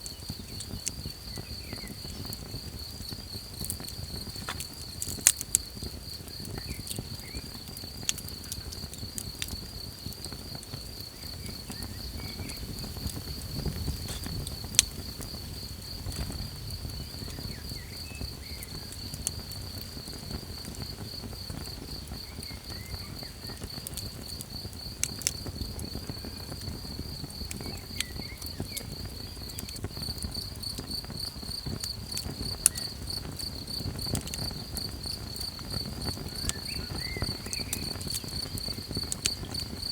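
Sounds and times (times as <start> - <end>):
burning wood popping: 0.0 - 39.9
campfire crackling: 0.0 - 39.9
crickets chirping: 0.0 - 39.9.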